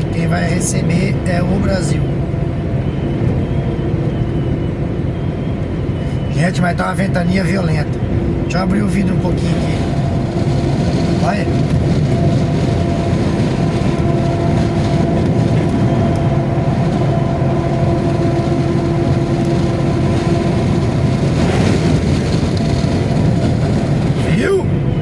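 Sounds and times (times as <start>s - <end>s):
truck engine and tyres droning: 0.0s - 25.0s
wind rushing through window: 0.0s - 25.0s.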